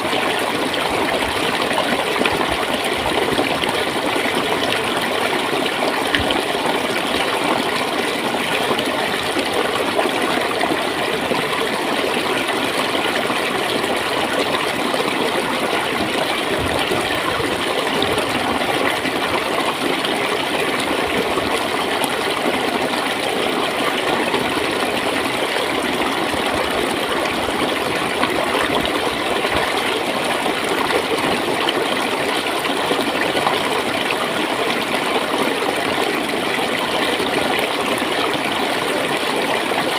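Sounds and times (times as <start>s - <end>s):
stream water flowing and gurgling: 0.0s - 39.9s.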